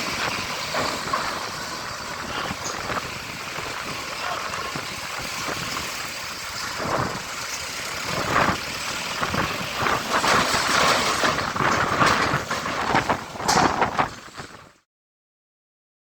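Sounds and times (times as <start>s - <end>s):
diesel trucks running: 0.0s - 14.8s.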